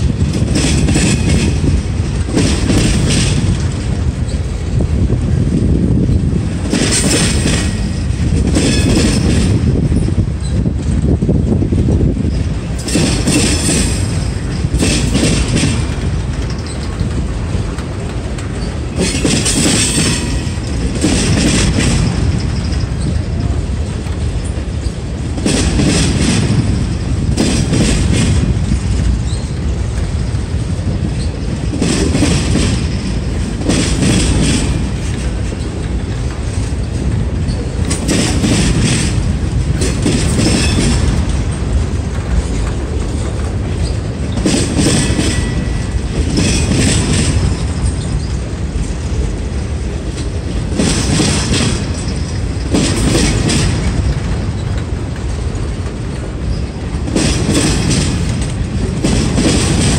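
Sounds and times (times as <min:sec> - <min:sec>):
freight train wheels rumbling: 0:00.0 - 0:59.9
wheels clattering and squealing: 0:00.0 - 0:59.9.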